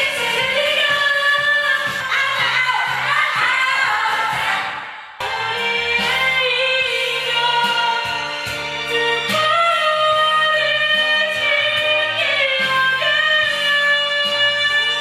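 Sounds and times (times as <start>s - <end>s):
instrumental backing music: 0.0s - 15.0s
person singing: 0.0s - 15.0s.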